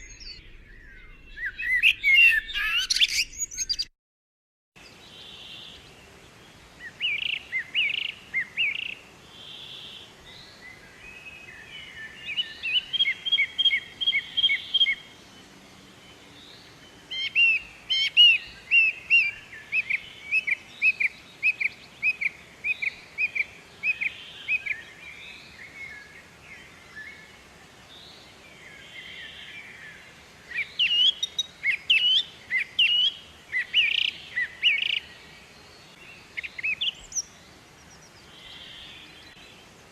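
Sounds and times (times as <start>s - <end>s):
bird chirping: 0.0s - 3.9s, 4.8s - 27.3s, 27.9s - 39.8s.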